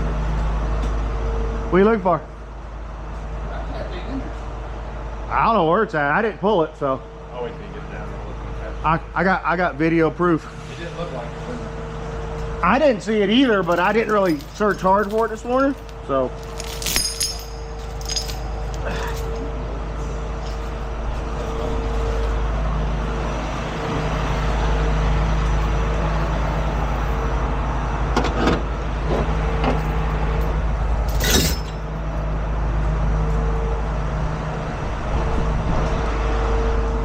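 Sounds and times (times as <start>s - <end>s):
diesel truck engine rumbling: 0.0s - 37.0s.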